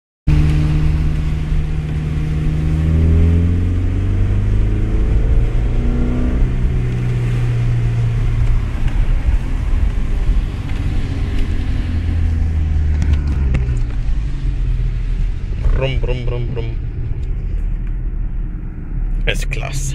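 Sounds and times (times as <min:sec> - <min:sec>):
car engine drone from inside: 0:00.3 - 0:19.9.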